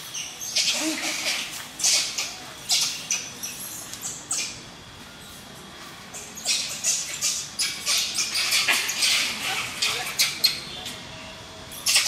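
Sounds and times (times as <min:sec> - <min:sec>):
monkeys screeching: 0:00.0 - 0:04.6, 0:06.1 - 0:12.0.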